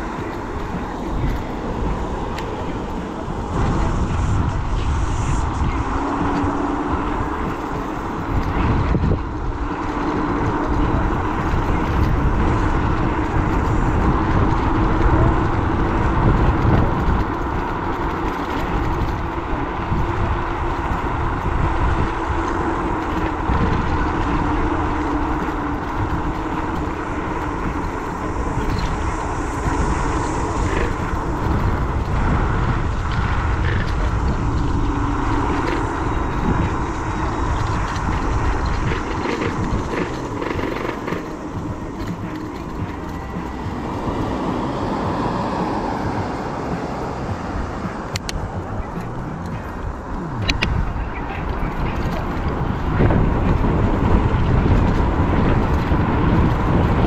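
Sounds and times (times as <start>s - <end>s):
faint steady hum: 0.0s - 57.0s
road and wind noise rumble: 0.0s - 57.0s.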